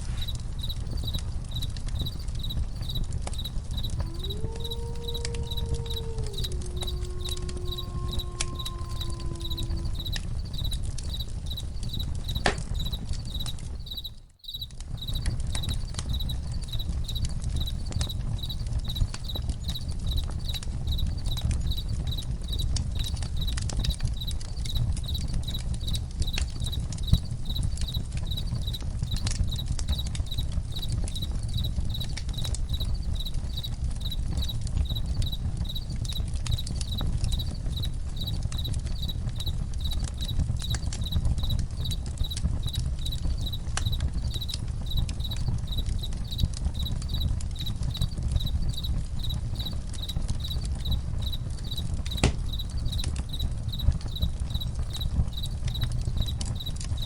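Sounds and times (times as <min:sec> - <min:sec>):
campfire crackling and popping: 0:00.0 - 0:13.9, 0:14.6 - 0:57.0
crickets chirping: 0:00.0 - 0:23.5, 0:24.2 - 0:57.0.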